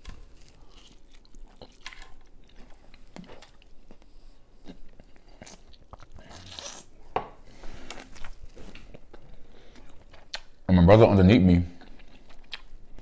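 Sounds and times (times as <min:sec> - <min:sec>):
chewing food with crunches: 0:00.0 - 0:06.9, 0:07.7 - 0:10.7, 0:11.7 - 0:13.0.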